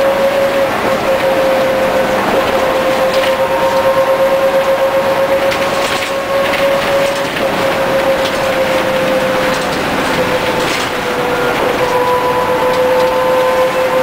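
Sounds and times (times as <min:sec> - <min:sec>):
bus drivetrain whine: 0:00.0 - 0:14.0
road noise: 0:00.0 - 0:14.0.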